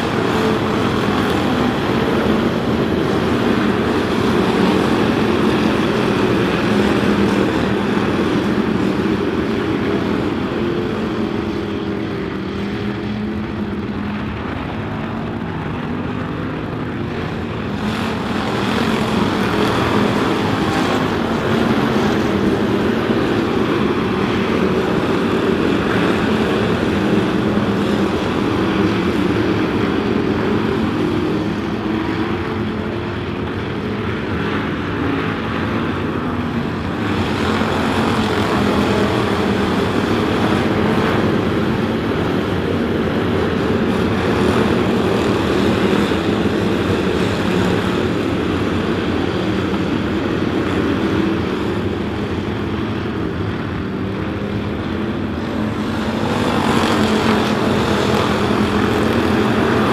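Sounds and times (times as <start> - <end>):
race car engines droning: 0.0 - 59.9.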